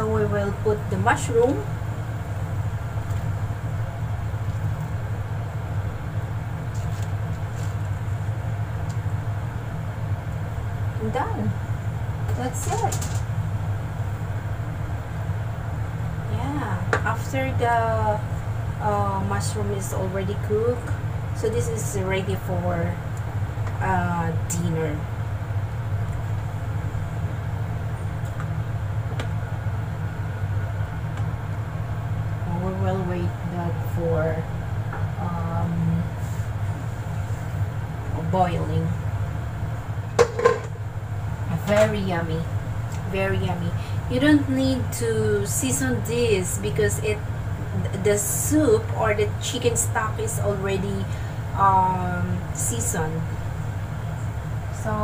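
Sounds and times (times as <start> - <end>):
low kitchen hum: 0.0 - 55.0.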